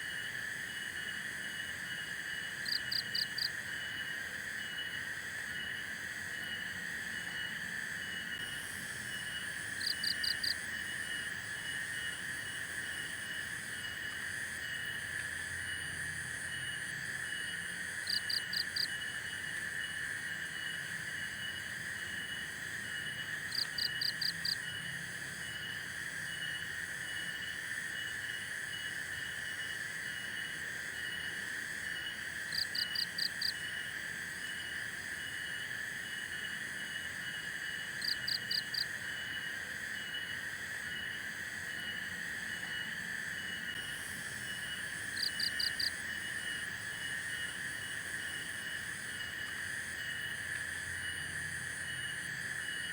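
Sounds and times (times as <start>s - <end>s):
insects and frogs droning: 0.0s - 52.9s.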